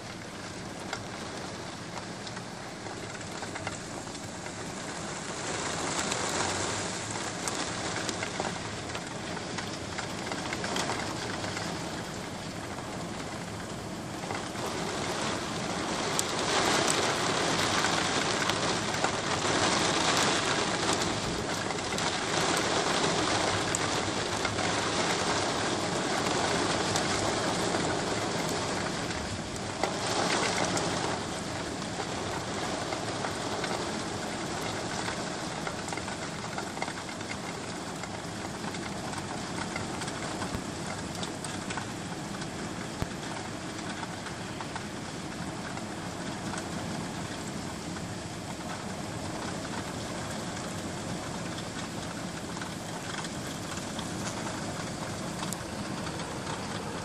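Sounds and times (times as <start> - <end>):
heavy rain on a street: 0.0 - 57.0.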